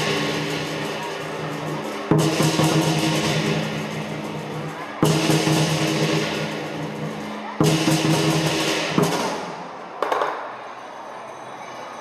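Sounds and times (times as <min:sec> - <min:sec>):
drum beating: 0:00.0 - 0:10.4
cymbals clashing: 0:00.0 - 0:12.0.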